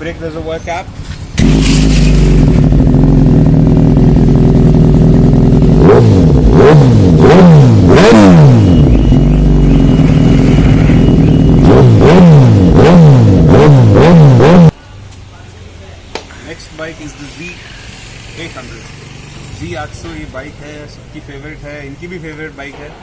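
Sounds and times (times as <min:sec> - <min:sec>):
motorcycle engine idling and revving: 0:00.0 - 0:16.1, 0:16.8 - 0:22.6.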